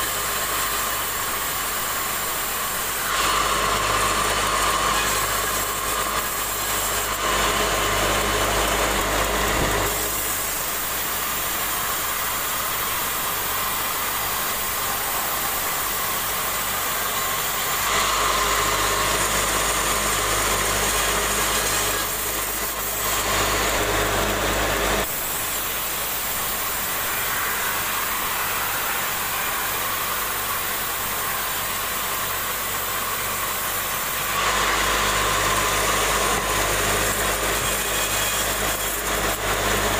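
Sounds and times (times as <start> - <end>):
band saw cutting through log: 0.0 - 39.9
deep mechanical hum: 0.0 - 39.9.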